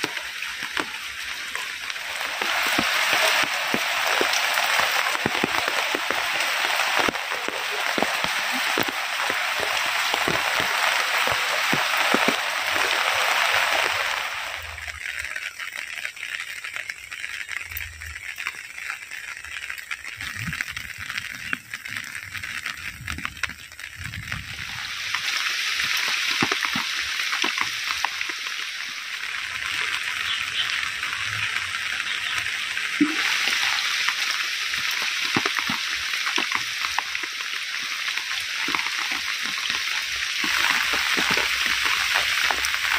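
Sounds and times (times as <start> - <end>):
heavy rain falling: 0.0 - 42.9
raindrops striking a surface: 0.0 - 42.9.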